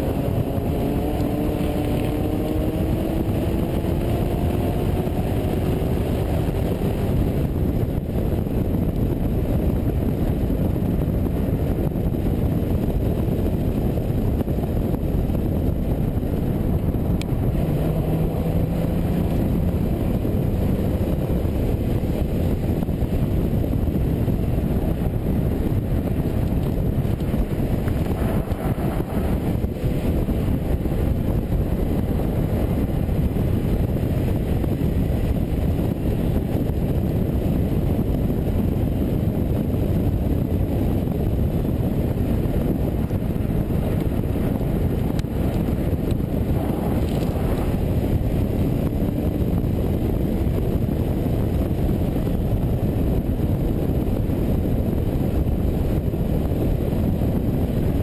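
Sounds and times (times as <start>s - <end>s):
car tyre and engine noise: 0.0s - 58.0s
wind rush over microphone: 0.0s - 58.0s.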